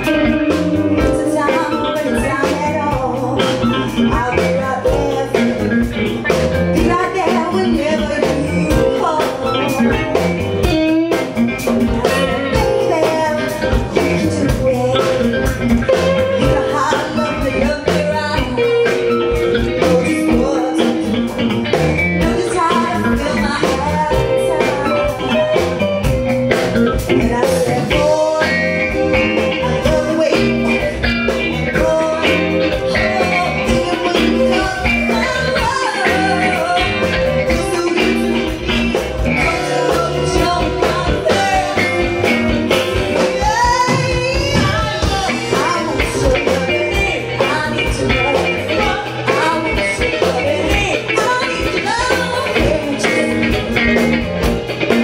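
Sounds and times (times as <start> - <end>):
bass guitar: 0.0 - 55.0
drums: 0.0 - 55.0
electric guitars: 0.0 - 55.0
woman singing: 0.0 - 55.0.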